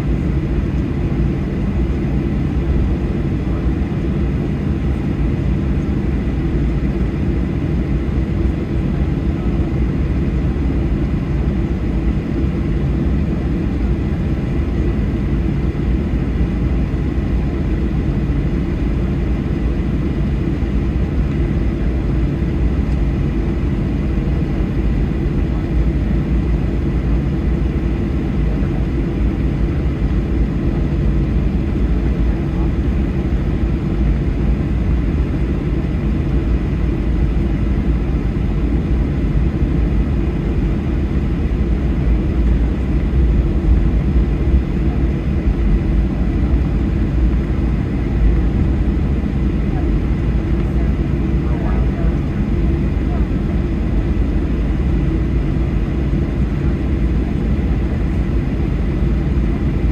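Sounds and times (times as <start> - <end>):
airplane cabin low rumble: 0.0 - 59.9.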